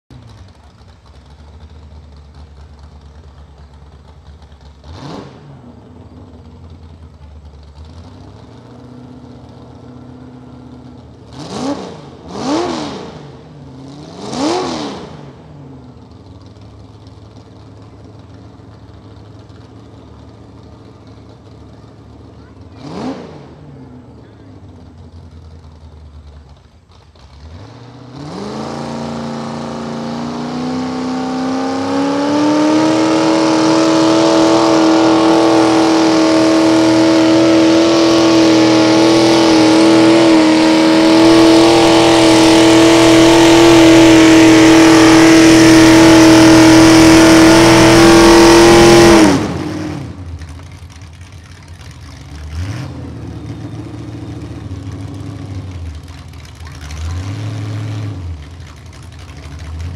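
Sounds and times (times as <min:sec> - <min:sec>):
tractor engine at full throttle: 0:00.1 - 0:59.9.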